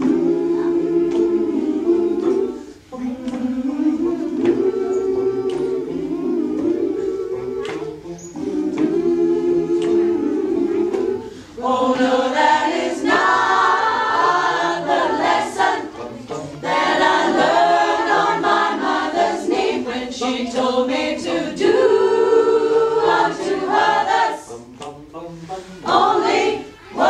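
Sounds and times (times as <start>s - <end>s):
choir singing a cappella: 0.0s - 27.0s.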